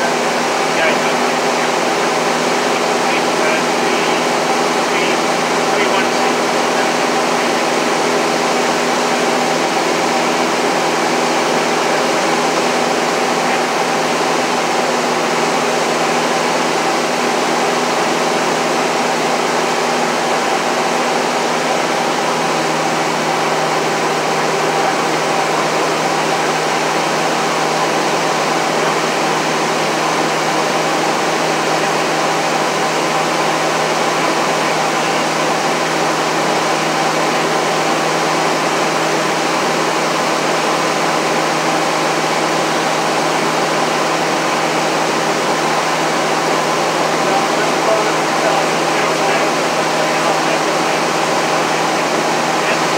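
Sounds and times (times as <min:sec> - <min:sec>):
light aircraft engine and propeller drone: 0:00.0 - 0:52.9.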